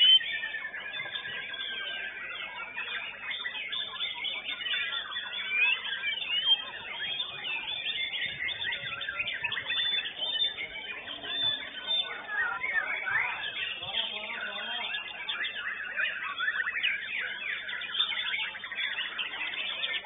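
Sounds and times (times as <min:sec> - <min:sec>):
birds singing whistled phrases: 0:00.0 - 0:20.0.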